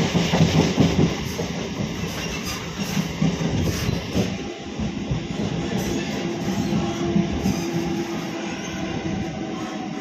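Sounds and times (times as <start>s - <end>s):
train knocks and rattles: 0.0s - 10.0s
train wheels rumbling on rails: 0.0s - 10.0s.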